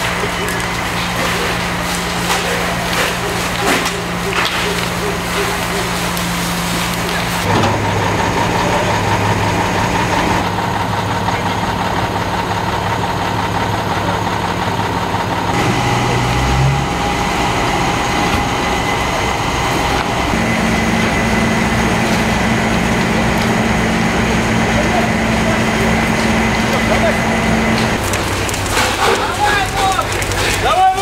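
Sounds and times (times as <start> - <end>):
fire engine running: 0.0 - 31.0.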